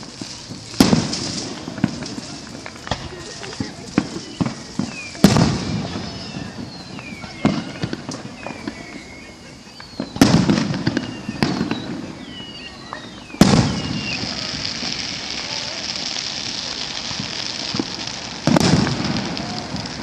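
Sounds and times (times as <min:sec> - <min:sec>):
firework pops and crackles: 0:00.0 - 0:20.0
loud firework booms: 0:00.0 - 0:20.0.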